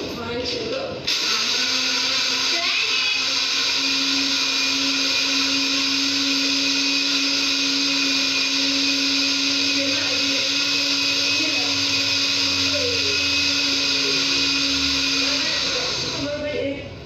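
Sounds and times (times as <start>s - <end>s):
blender running: 1.0s - 16.8s.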